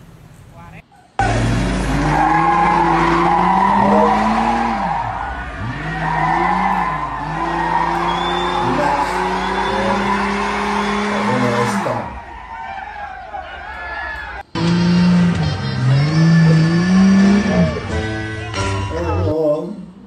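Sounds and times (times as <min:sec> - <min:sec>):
truck engines revving: 0:00.0 - 0:20.0
tyres squealing on asphalt: 0:01.2 - 0:19.3.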